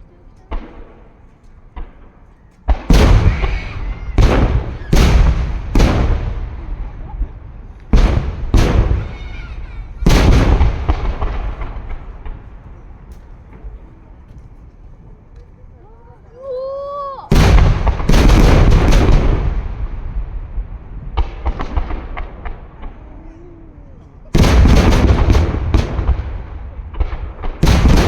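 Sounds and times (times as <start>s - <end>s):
firework shells bursting with booms: 0.5s - 14.2s, 17.3s - 23.1s, 24.3s - 28.0s.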